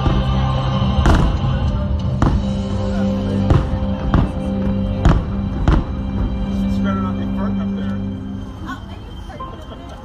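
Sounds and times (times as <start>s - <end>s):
soundtrack music: 0.0s - 10.0s.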